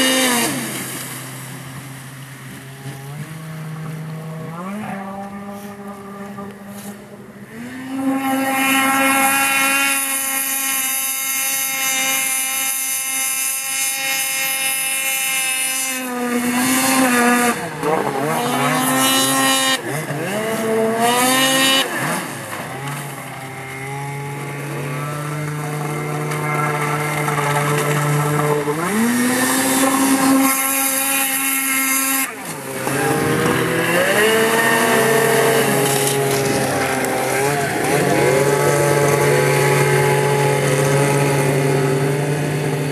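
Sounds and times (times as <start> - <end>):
snowmobile engines revving: 0.0 - 42.9.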